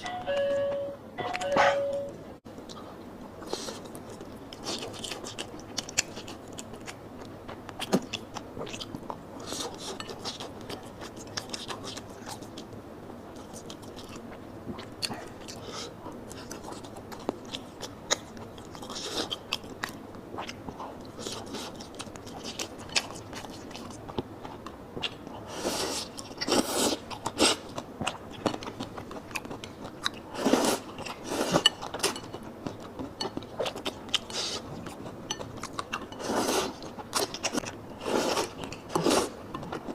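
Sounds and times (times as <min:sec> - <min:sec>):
person chewing noodles: 0:03.4 - 0:39.9.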